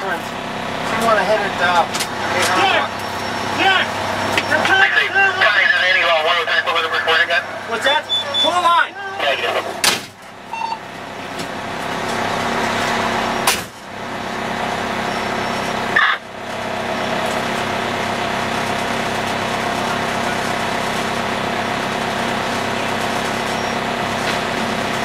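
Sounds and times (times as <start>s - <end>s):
fire engine engine running: 0.0s - 25.0s.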